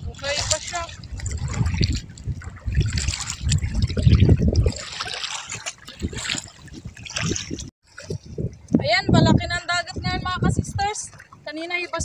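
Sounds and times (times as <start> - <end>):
seawater sloshing and trickling: 0.0 - 12.0.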